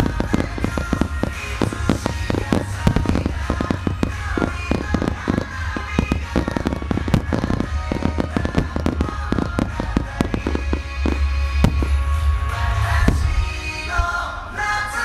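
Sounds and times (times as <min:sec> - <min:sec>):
fireworks bangs and crackles: 0:00.0 - 0:14.2
music playing: 0:00.0 - 0:15.0.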